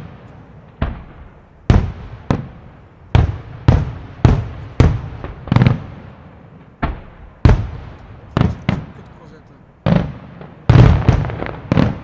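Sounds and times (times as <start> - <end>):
fireworks bursting with bangs: 0.0 - 12.0.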